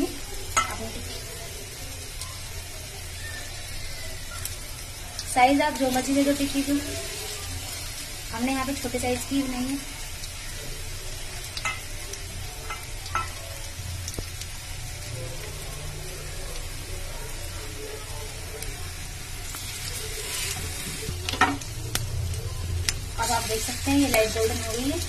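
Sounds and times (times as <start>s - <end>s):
potato patties sizzling in oil: 0.0s - 25.0s.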